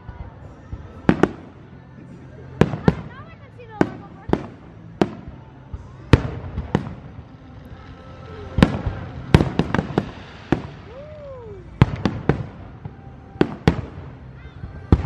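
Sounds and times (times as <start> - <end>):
fireworks bursting overhead: 0.0 - 15.0.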